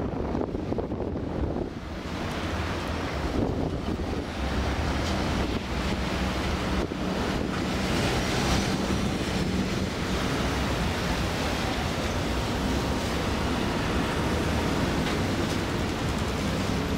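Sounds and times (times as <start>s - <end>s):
tram wheels rumbling on rails: 0.0s - 16.9s
wind noise on microphone: 0.0s - 16.9s.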